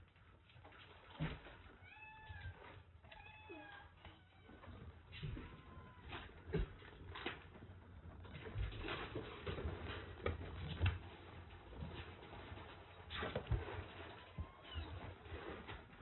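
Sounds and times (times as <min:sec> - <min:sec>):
kittens scrambling in wire cage: 0:00.4 - 0:16.0.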